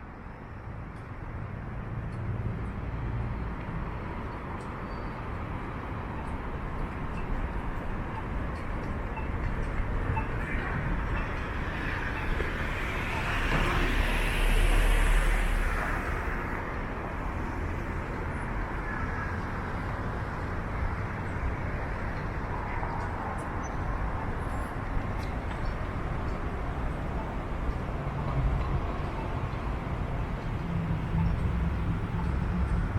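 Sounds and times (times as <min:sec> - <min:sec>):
city street traffic: 0:00.0 - 0:32.9.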